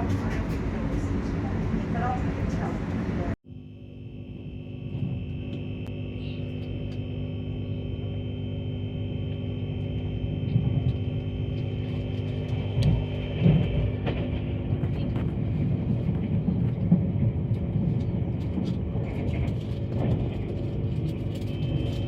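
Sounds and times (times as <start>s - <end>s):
train interior rumble: 0.0s - 3.4s, 4.8s - 7.2s, 7.9s - 22.0s
electric hum: 3.5s - 22.0s
high whine: 3.5s - 22.0s.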